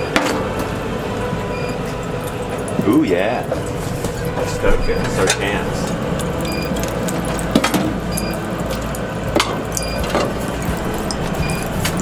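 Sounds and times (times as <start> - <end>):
firewood knocking and clattering: 0.0 - 12.0.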